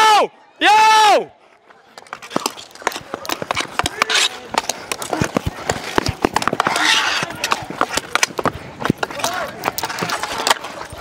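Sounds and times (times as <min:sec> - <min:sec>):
faint voices: 0:00.0 - 0:11.0
running footsteps: 0:01.5 - 0:11.0
hockey sticks hitting court and ball: 0:01.7 - 0:11.0.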